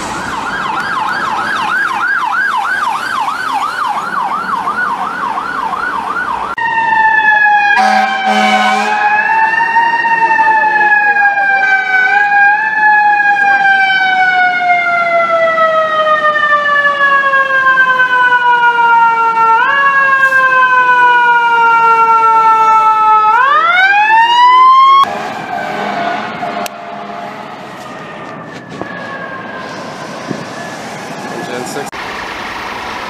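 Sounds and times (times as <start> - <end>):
city street traffic: 0.0 - 33.0
fire truck mechanical siren: 0.0 - 33.0.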